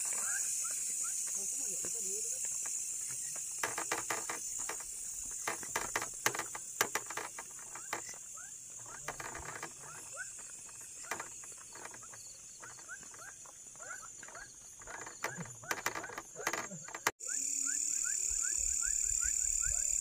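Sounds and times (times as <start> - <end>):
night insects chorus: 0.0 - 20.0.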